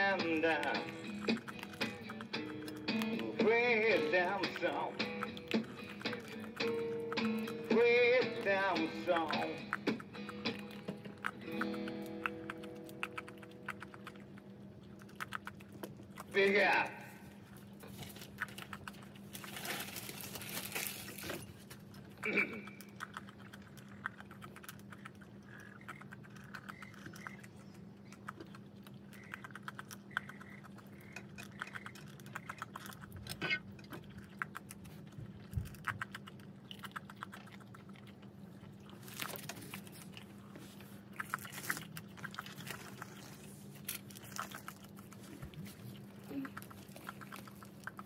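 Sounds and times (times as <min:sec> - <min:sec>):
animals chewing and crunching: 0:00.0 - 0:48.0
steady low hum: 0:00.0 - 0:48.0.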